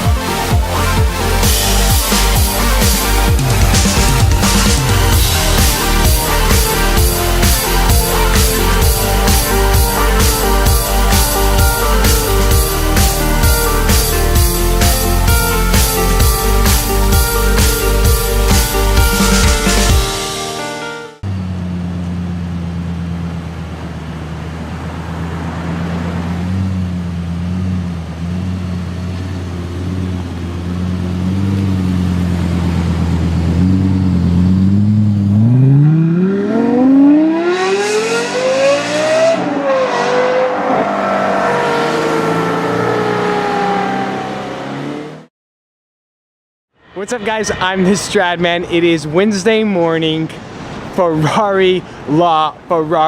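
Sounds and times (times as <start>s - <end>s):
sports car engine revving: 0.0s - 19.9s, 21.2s - 45.3s.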